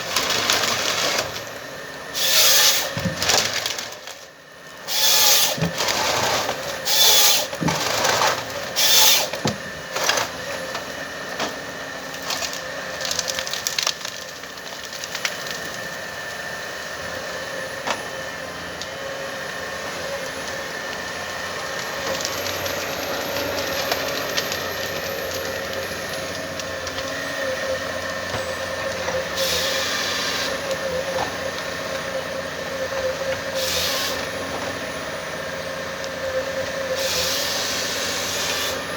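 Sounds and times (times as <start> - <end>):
machine engine and hydraulics whine: 0.0 - 13.7, 15.4 - 38.9
wood cracking and splintering: 0.0 - 16.8, 20.1 - 38.9.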